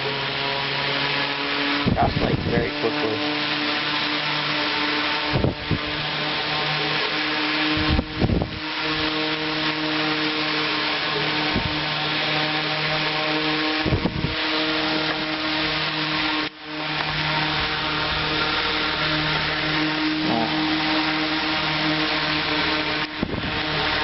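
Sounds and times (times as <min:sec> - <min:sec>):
fan motor hum and air rush: 0:00.0 - 0:24.0.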